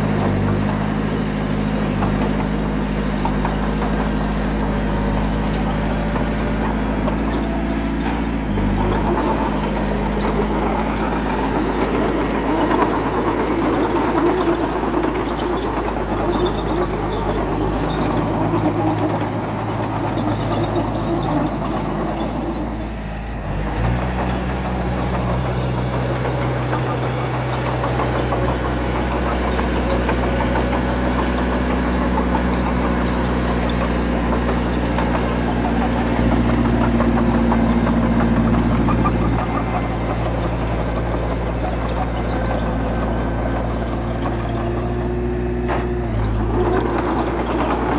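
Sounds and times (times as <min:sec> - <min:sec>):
diesel engine of earthmoving equipment: 0:00.0 - 0:47.9.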